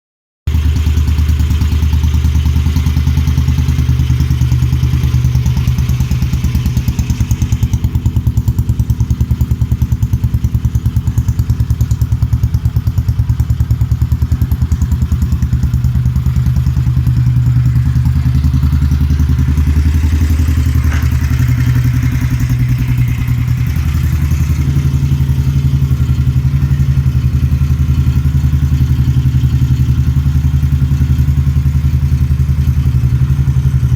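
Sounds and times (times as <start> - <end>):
motorcycle engine idling: 0.5 - 33.9.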